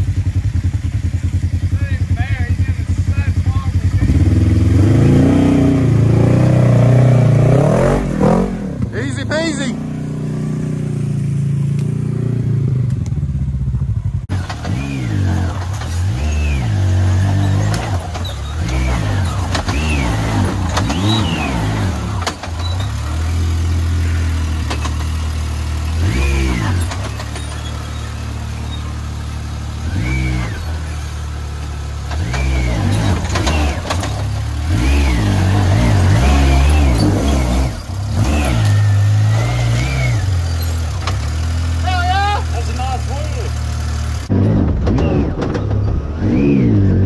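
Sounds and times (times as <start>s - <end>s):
utility vehicle engine revving: 0.0s - 47.0s.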